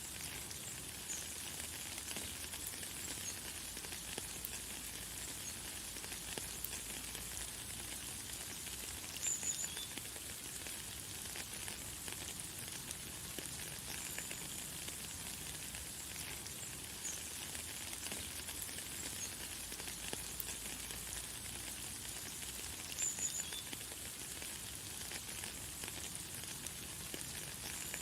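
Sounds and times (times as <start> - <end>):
light rain falling: 0.0 - 28.0.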